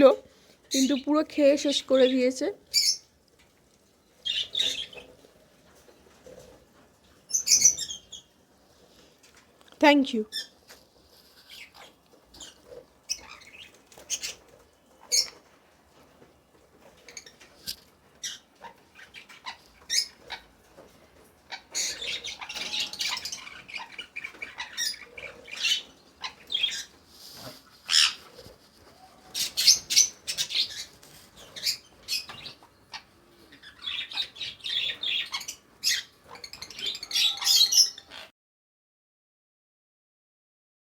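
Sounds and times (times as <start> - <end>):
parrots squawking and chirping: 2.0 - 5.4, 6.0 - 8.4, 10.2 - 15.6, 16.8 - 38.3.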